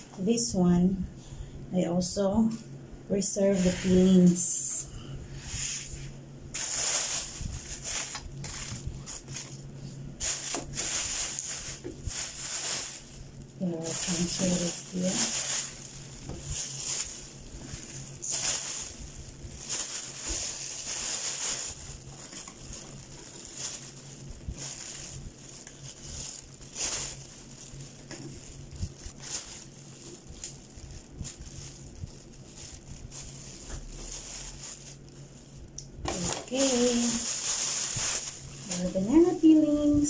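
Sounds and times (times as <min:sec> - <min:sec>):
plastic bag crinkling: 0:05.9 - 0:40.0.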